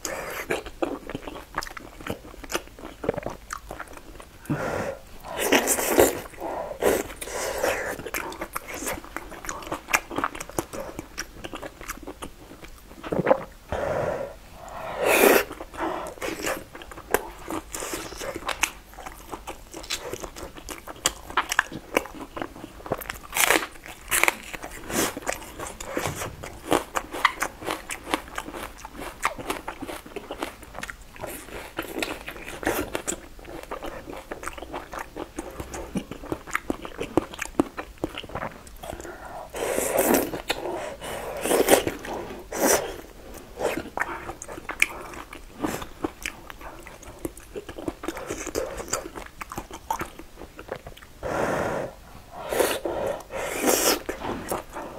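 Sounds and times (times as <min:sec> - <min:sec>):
wet chewing and biting: 0:00.0 - 0:13.6, 0:14.6 - 0:51.2.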